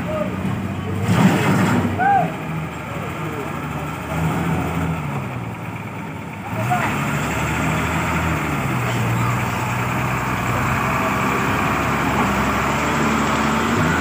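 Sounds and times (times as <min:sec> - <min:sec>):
diesel truck engine droning: 0:00.0 - 0:14.0.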